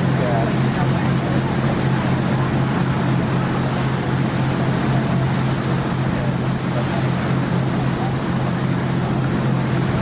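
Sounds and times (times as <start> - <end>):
boat engine droning: 0.0 - 10.0
water and wind hiss: 0.0 - 10.0.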